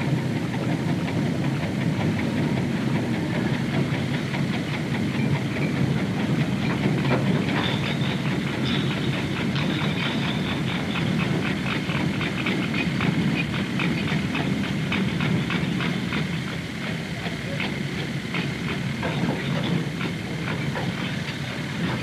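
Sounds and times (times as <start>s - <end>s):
low machinery rumble: 0.0s - 22.0s
rhythmic metallic chain clanking: 0.1s - 22.0s.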